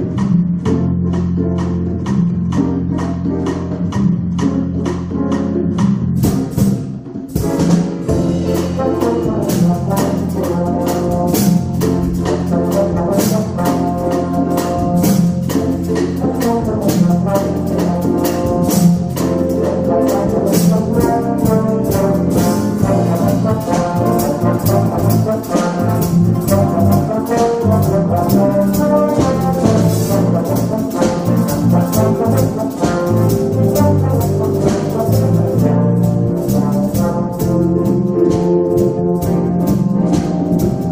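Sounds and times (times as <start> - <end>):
big band playing: 0.0 - 40.9
brass chords: 0.0 - 40.9
conga drums: 0.0 - 40.9.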